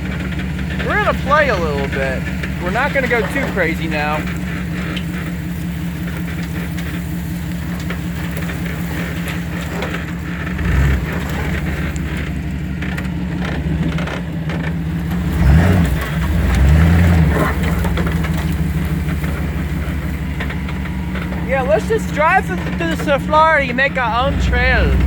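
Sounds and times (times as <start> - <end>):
car engine revving off-road: 0.0 - 25.0.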